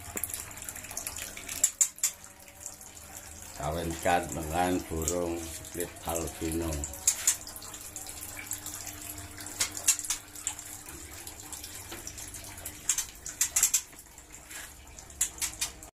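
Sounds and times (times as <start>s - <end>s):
water splashes and spatters: 3.1s - 15.9s.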